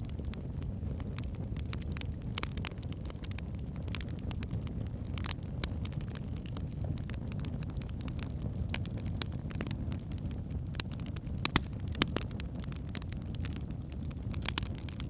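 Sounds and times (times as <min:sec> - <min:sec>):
wood fire burning: 0:00.0 - 0:15.0.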